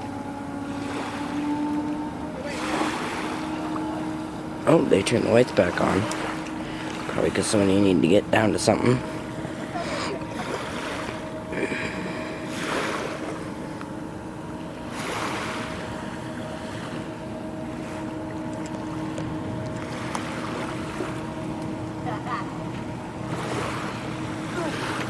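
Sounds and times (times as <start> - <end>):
ferry engines droning: 0.0 - 25.0
small waves washing on shore: 0.0 - 25.0.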